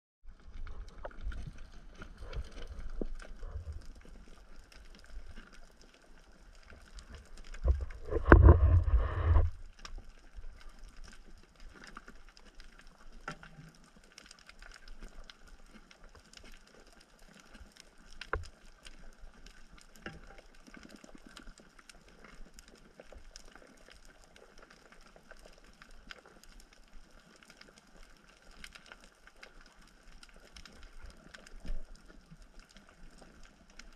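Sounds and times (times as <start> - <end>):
faint steady underwater noise: 0.2 - 33.9
underwater crackle of clicks: 0.4 - 33.9.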